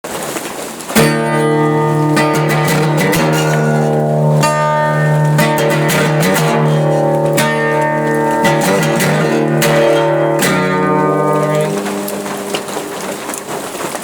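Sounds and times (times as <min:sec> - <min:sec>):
guitar chords strummed: 0:01.0 - 0:14.0.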